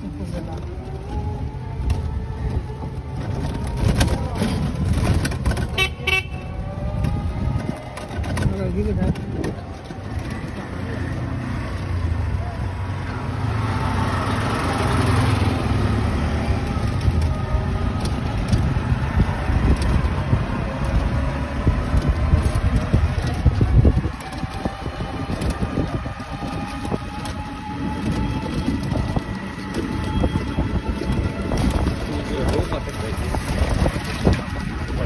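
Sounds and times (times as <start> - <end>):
wind buffeting microphone: 0.0 - 12.8, 14.8 - 35.0
vehicle running noise: 0.0 - 35.0.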